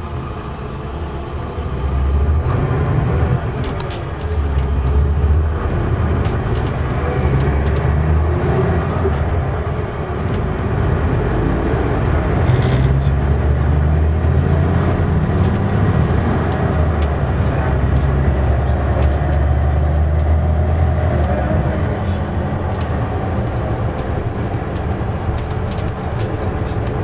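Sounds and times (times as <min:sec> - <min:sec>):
bus diesel engine droning: 0:00.0 - 0:27.0.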